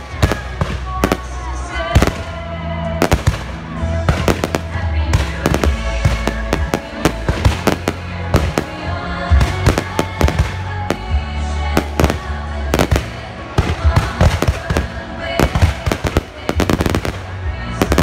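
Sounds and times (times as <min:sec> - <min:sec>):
fireworks bursting and crackling: 0:00.0 - 0:18.0
music playing: 0:00.0 - 0:18.0.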